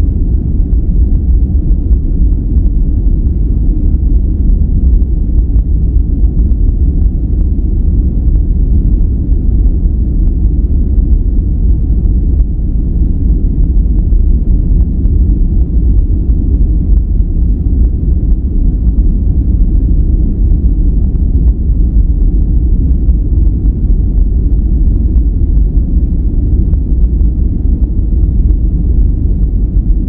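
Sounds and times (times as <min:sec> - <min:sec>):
deep low white noise: 0:00.0 - 0:30.0.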